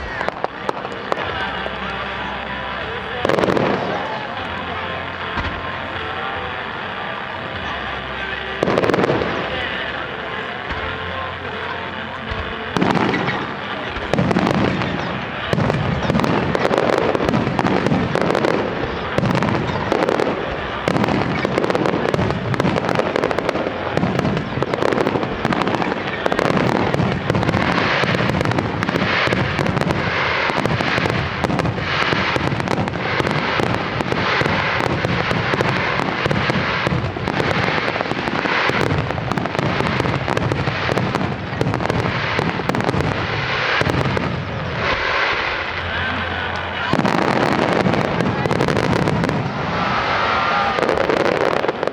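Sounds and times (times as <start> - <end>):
fireworks booming and crackling: 0.0 - 51.9.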